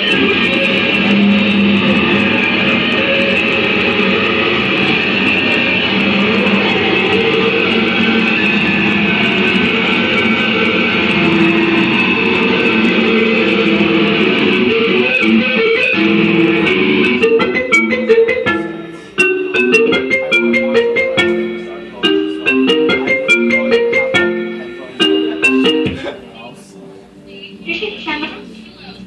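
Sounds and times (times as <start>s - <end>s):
layered electronic noise tones: 0.0s - 26.2s.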